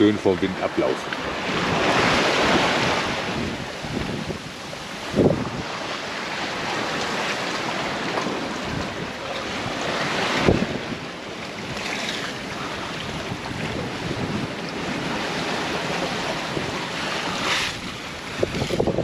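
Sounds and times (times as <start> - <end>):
waves rushing along a hull: 0.0 - 19.0
wind buffeting microphone: 0.0 - 19.0.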